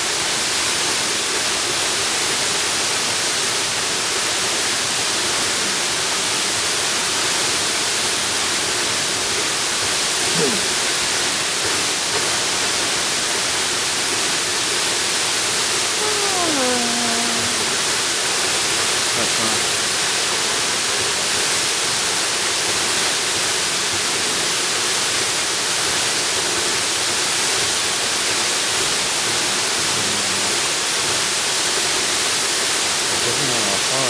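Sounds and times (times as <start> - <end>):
waterfall rushing: 0.1 - 34.0.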